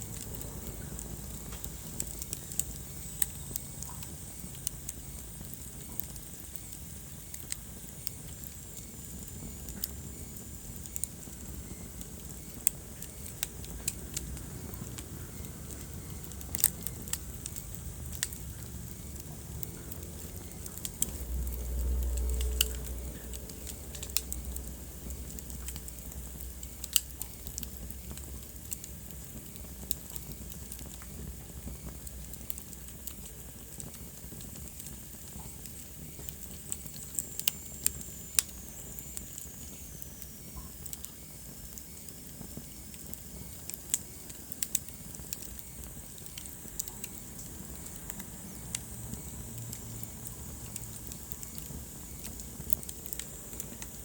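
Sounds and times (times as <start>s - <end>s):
low rumble of flames: 0.0s - 54.0s
sharp pops of fire: 0.0s - 54.0s
wood fire crackling: 0.0s - 54.0s.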